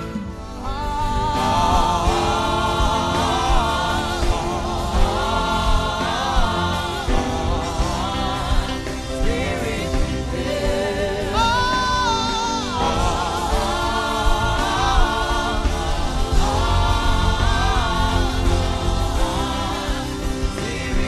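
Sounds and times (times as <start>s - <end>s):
man humming a gospel melody: 0.0s - 21.0s
sustained accompaniment with bass: 0.0s - 21.0s.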